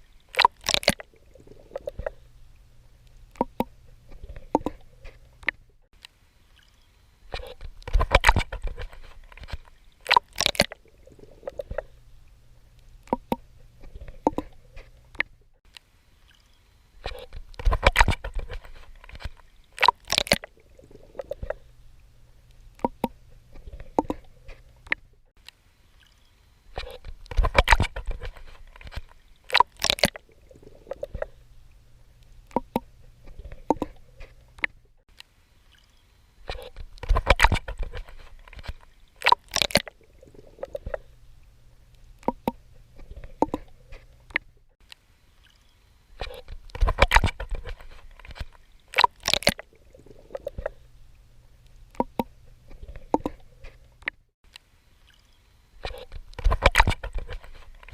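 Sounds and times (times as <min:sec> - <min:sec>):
low steady hum: 0:00.0 - 0:57.9
water sloshing and splashing: 0:00.0 - 0:57.9.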